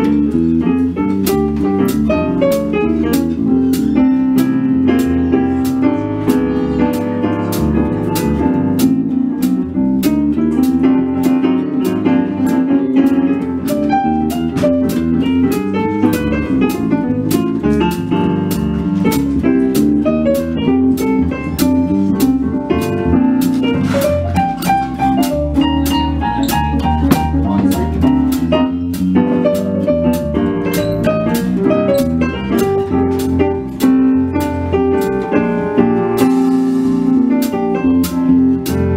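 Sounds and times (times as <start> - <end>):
electric bass line: 0.0 - 38.9
piano chords and melody: 0.0 - 38.9.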